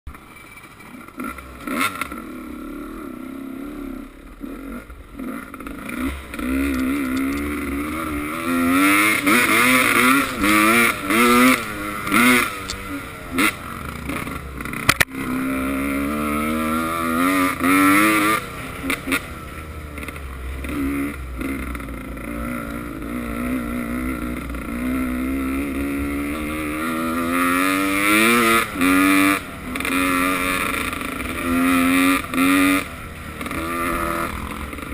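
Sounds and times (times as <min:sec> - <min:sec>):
dirt bike engines revving: 0:00.2 - 0:34.9.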